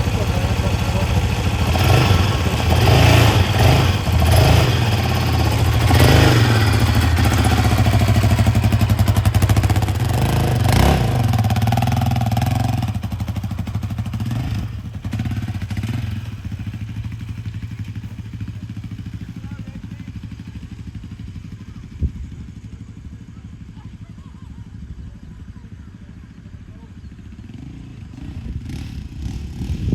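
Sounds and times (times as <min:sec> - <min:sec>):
quad bike engine revving: 0:00.0 - 0:29.9.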